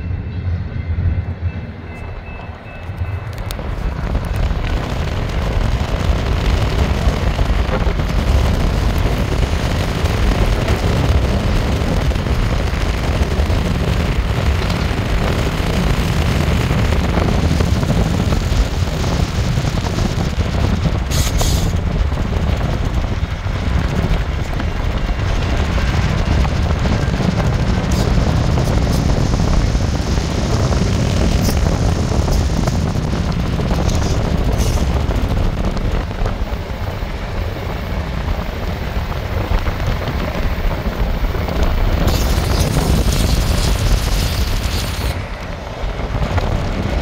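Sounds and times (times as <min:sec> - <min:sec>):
car road and wind rumble: 0:00.0 - 0:47.0
wind buffeting microphone: 0:00.0 - 0:47.0.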